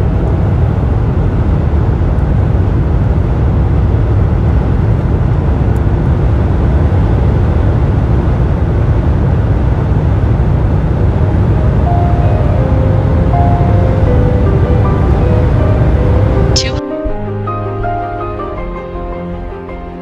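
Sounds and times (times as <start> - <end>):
car cabin road and wind roar: 0.0 - 16.6.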